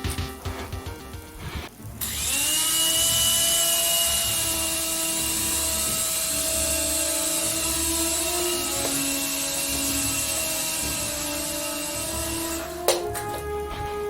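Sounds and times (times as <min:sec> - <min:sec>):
rotor wash hiss: 0:01.1 - 0:13.2
toy helicopter motor whine: 0:02.0 - 0:14.0.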